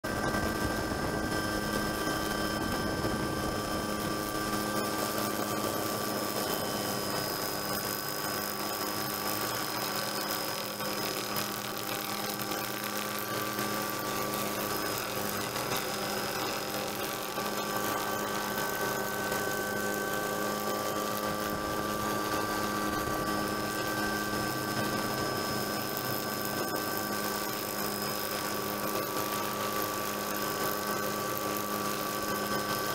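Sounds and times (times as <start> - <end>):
helicopter running from on board: 0.0 - 32.9.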